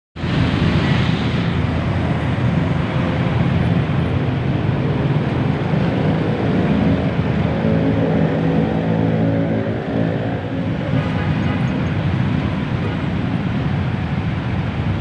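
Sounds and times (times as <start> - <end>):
traffic engines running: 0.2 - 15.0.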